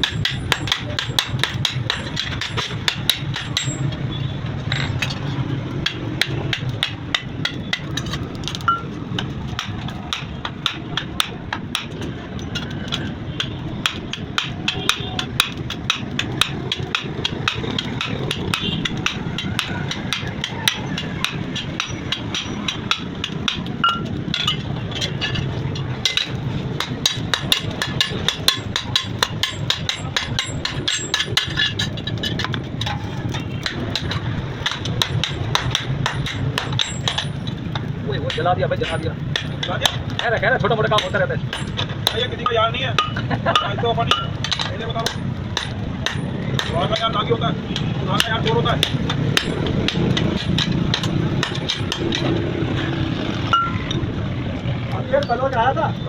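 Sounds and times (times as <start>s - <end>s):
hammer striking steel on anvil: 0.0s - 54.0s.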